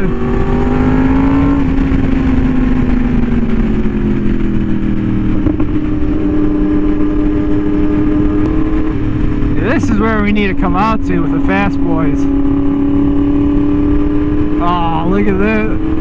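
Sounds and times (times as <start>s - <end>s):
motorcycle engine cruising: 0.0s - 16.0s
wind noise: 0.0s - 16.0s.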